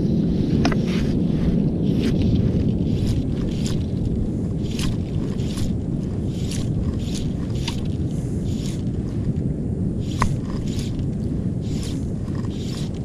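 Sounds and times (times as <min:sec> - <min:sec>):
wind rumbling on microphone: 0:00.0 - 0:13.0
fishing line swishing: 0:00.8 - 0:09.4, 0:10.0 - 0:13.0.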